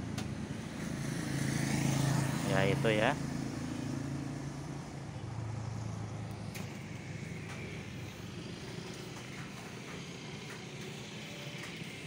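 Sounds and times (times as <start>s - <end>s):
low engine hum of traffic: 0.0s - 12.0s.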